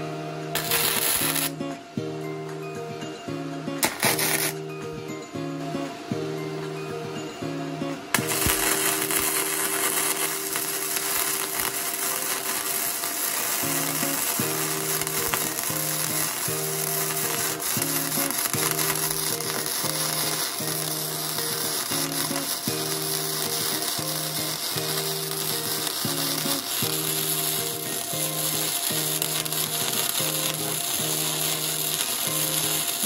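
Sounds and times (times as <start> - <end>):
background music: 0.0 - 33.0
welding arc crackling: 0.5 - 1.7, 3.8 - 4.7, 8.1 - 33.0.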